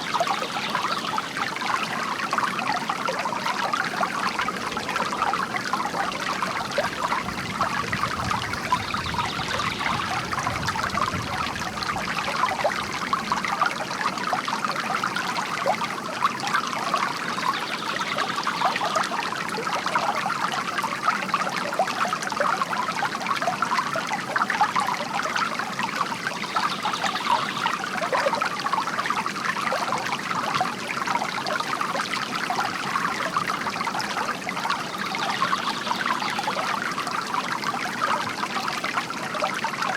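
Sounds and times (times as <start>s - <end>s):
water trickling into basin: 0.0s - 39.9s.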